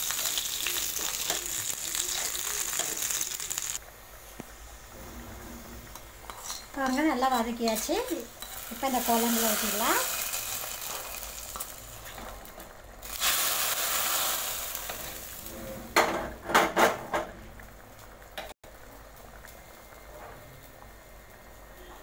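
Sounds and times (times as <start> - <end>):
oil sizzling in a pot: 0.0 - 16.9, 17.6 - 22.0.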